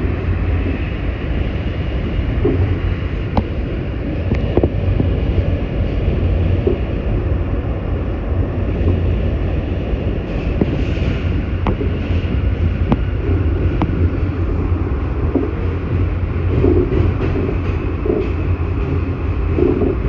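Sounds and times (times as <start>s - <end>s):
subway car rumbling: 0.0s - 20.0s.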